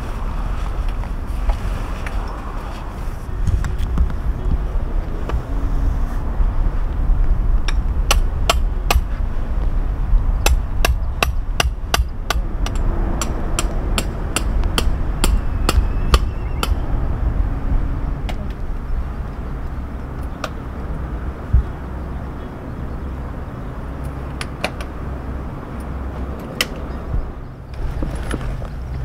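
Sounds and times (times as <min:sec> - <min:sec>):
low rumble: 0:00.0 - 0:24.3, 0:24.9 - 0:29.0.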